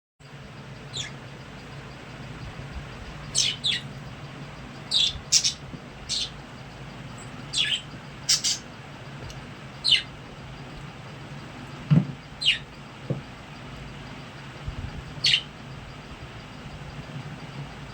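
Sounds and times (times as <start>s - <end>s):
low steady hum: 0.2s - 17.9s
budgerigars chirping: 0.7s - 17.1s.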